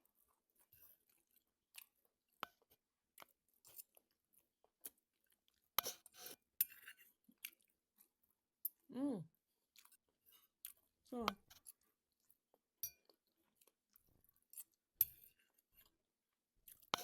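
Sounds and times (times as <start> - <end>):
person chewing food: 0.1 - 8.9, 9.6 - 17.0.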